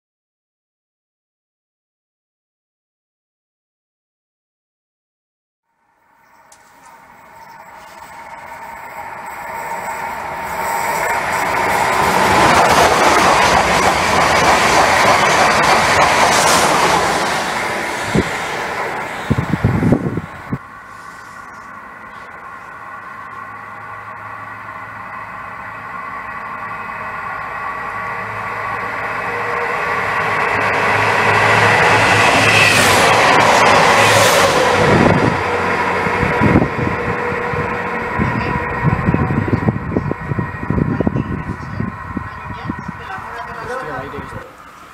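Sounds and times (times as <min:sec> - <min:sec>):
train passing at speed: 0:05.7 - 0:44.9.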